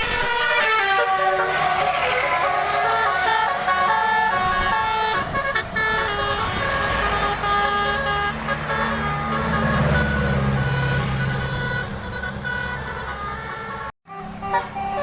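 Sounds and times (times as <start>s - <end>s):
multi-tone bus horn melody: 0.0s - 15.0s.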